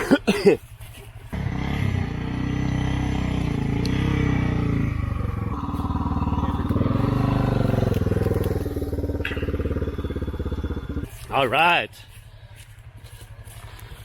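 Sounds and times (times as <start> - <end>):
motorcycle engine running: 0.2 - 14.0.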